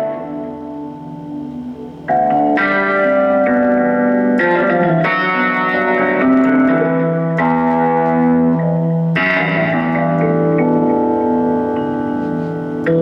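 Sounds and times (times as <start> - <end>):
keyboard playing plucked chords: 0.0 - 13.0.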